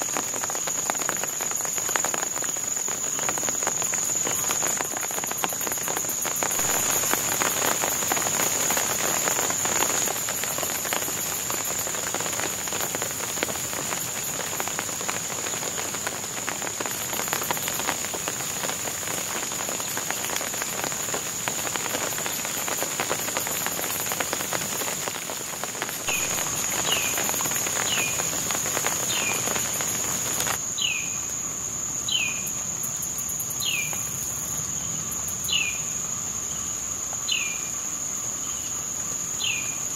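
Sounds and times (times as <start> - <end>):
rain pattering on foliage: 0.0 - 31.0, 31.9 - 39.9
insect trill: 0.0 - 39.9.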